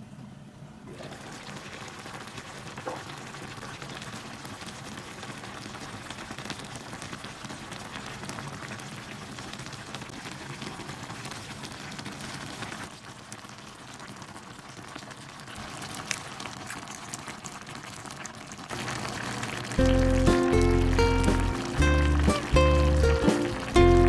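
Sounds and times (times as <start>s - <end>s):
bubbling with small pops: 0.9s - 24.0s
stew simmering in a pan: 0.9s - 24.0s.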